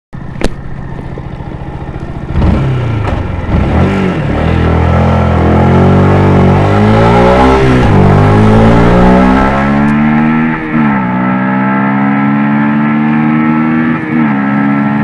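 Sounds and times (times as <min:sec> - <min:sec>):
motorcycle engine revving: 0:00.2 - 0:15.0.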